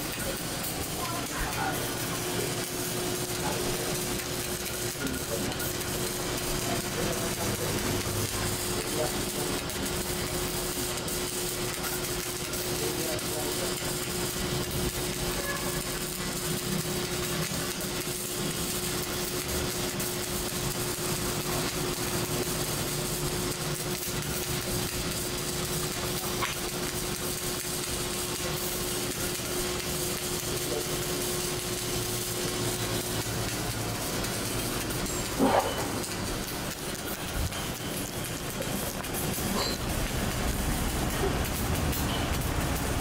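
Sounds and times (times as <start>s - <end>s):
welding machine humming: 0.0s - 43.0s.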